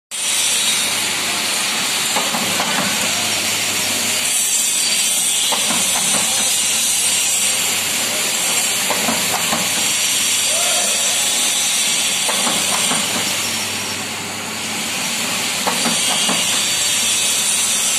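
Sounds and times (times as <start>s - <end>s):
plate making machine running: 0.2s - 17.9s.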